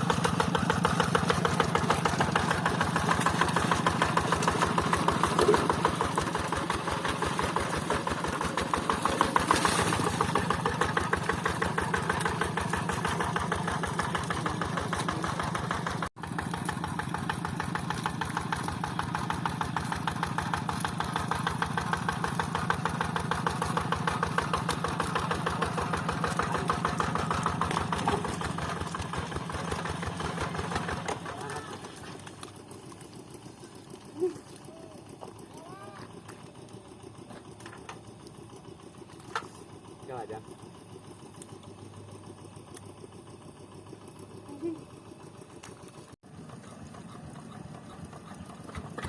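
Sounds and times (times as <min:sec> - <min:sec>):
tractor engine chugging: 0:00.0 - 0:49.0.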